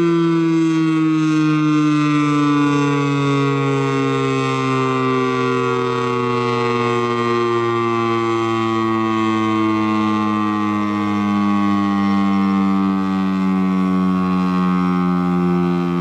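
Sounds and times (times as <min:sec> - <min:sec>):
warning siren winding down: 0:00.0 - 0:16.0.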